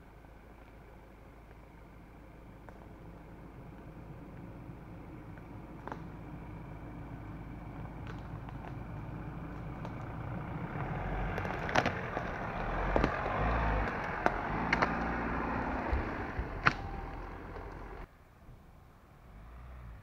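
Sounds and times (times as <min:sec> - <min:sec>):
cracks and knocks under tyres: 0:00.5 - 0:18.1
pickup truck engine driving past: 0:01.6 - 0:18.1.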